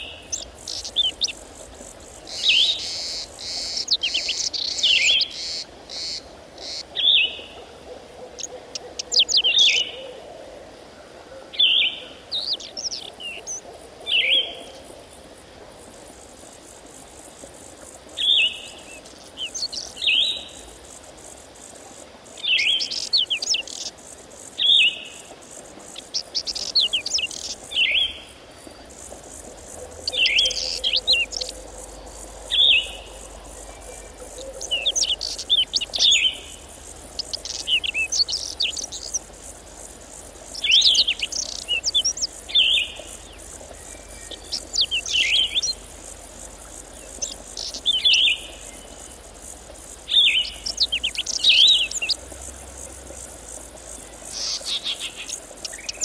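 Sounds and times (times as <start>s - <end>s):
songbird chirping: 0.0s - 10.3s, 11.2s - 15.0s, 16.2s - 56.0s
faint steady high hiss: 0.0s - 56.0s.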